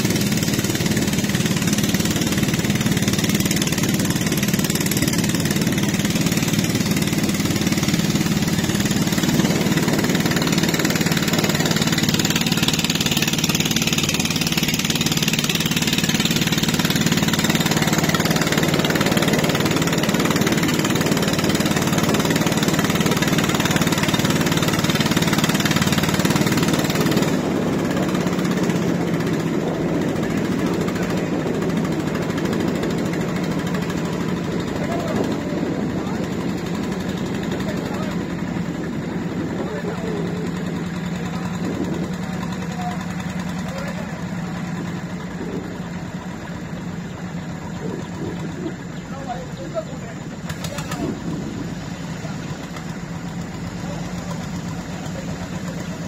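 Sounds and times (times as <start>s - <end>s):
boat engine drone: 0.0s - 56.0s
wind: 0.0s - 56.0s.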